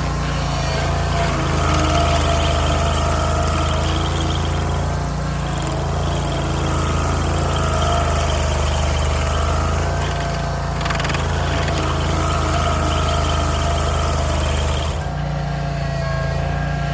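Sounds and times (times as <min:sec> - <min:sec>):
stump grinder engine running: 0:00.0 - 0:16.9.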